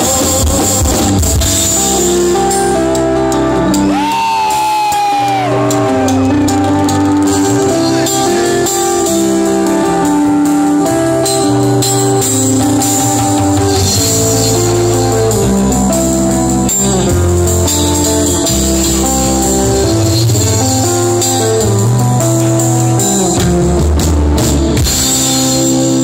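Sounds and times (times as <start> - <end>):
drum kit with cymbals: 0.0 - 26.0
electric bass: 0.0 - 26.0
electric guitar: 0.0 - 26.0.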